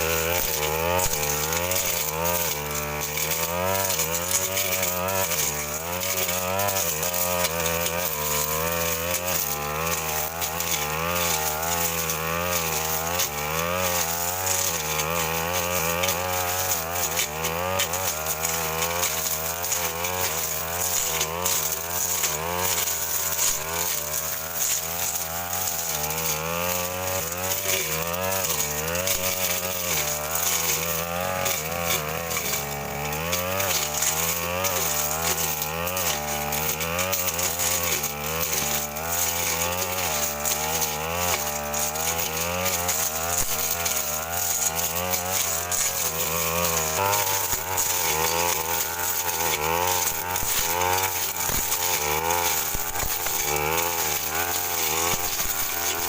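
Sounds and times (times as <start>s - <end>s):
brush cutter engine running: 0.0s - 56.0s.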